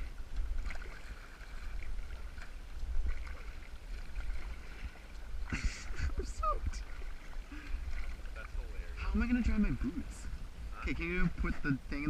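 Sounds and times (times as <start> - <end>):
paddle splashing in water: 0.0 - 10.6
wind rumble on microphone: 0.0 - 12.0.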